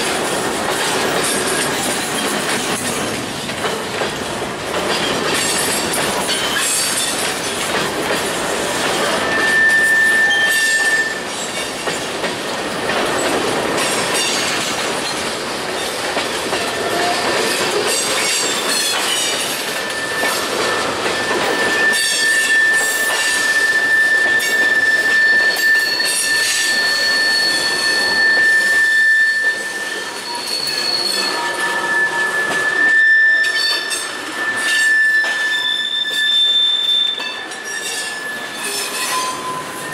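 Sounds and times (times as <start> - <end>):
train wheels clattering over rail joints: 0.0 - 39.9
wheel flanges squealing on rail: 0.0 - 39.9.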